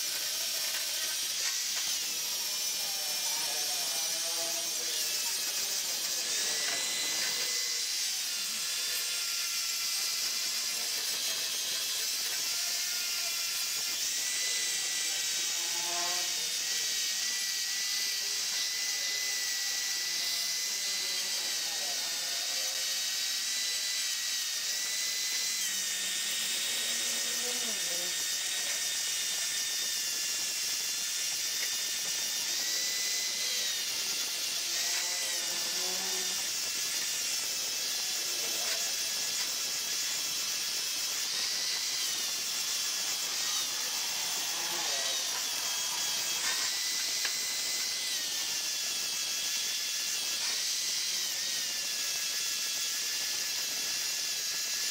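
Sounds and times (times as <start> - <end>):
angle grinder grinding metal: 0.0 - 54.9.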